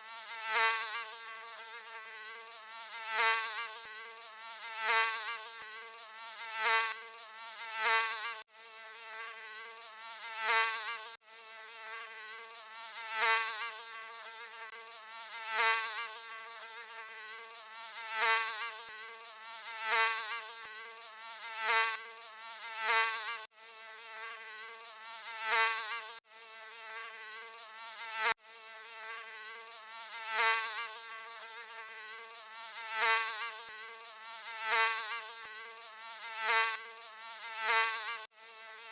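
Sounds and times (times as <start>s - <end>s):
mosquito buzzing: 0.0s - 38.9s.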